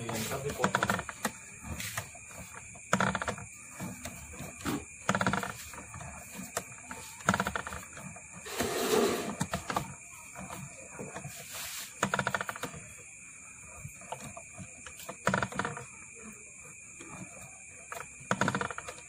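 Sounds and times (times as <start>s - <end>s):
coil winder gear whirring: 0.0s - 19.0s.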